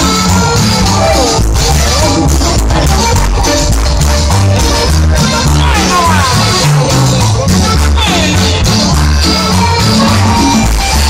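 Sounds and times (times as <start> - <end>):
live band music through speakers: 0.0 - 11.0.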